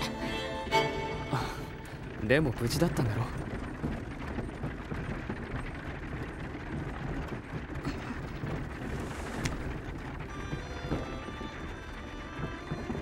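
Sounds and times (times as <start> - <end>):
wooden wagon wheels rumbling: 0.0 - 13.0.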